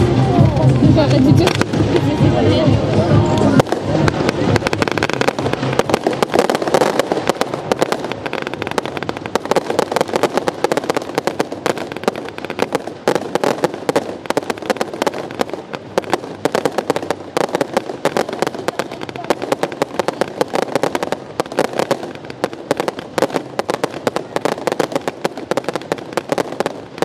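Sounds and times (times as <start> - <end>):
fireworks popping and crackling: 0.0 - 27.0.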